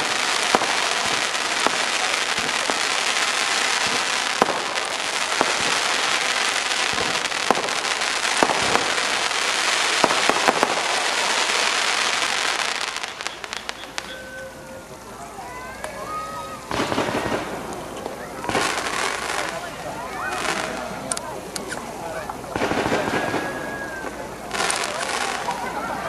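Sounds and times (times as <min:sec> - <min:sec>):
fireworks crackling: 0:00.0 - 0:26.0
fireworks popping: 0:00.0 - 0:26.0.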